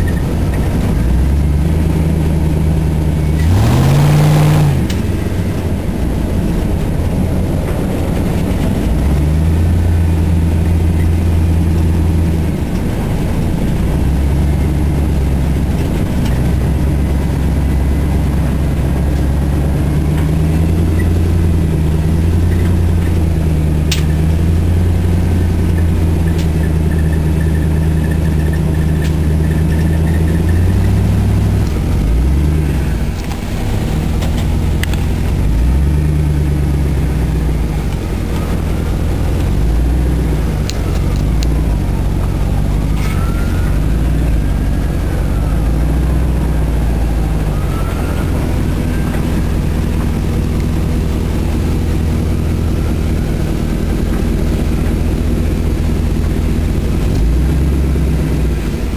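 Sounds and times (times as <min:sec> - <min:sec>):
car engine heard from cabin: 0:00.0 - 0:58.9.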